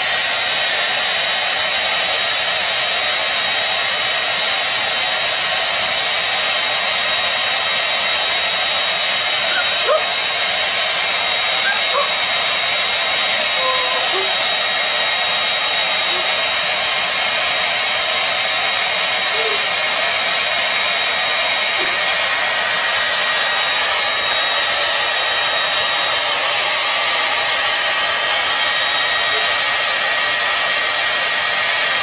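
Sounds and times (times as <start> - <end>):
hair dryer blowing: 0.0 - 32.0.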